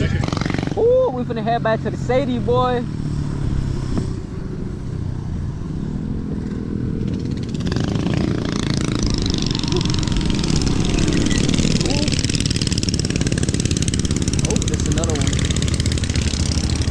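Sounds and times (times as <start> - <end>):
wind buffeting microphone: 0.0 - 1.0, 3.2 - 16.9
tyre and road noise: 0.0 - 16.9.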